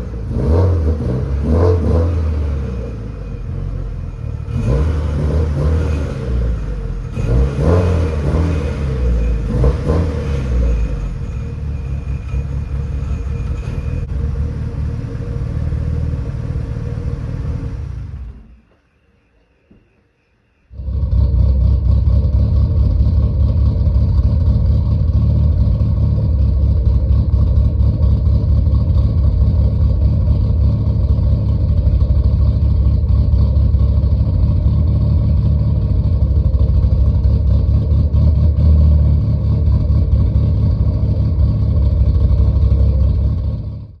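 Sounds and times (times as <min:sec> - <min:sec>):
loud car exhaust note: 0:00.0 - 0:18.6, 0:20.7 - 0:44.0.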